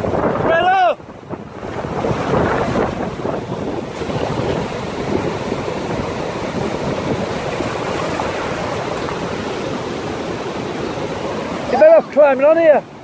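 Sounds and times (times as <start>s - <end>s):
waves breaking: 0.0s - 13.0s.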